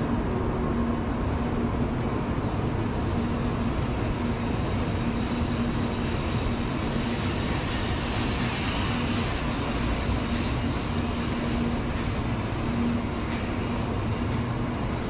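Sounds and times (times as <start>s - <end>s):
train hum: 0.0s - 15.0s
train rumble and hiss: 0.0s - 15.0s.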